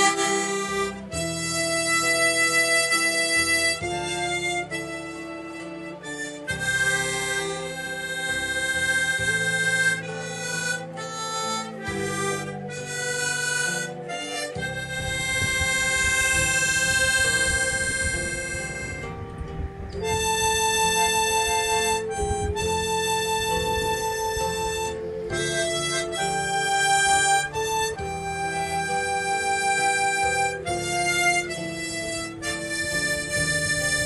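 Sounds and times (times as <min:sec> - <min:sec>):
slow instrumental music: 0:00.0 - 0:34.0.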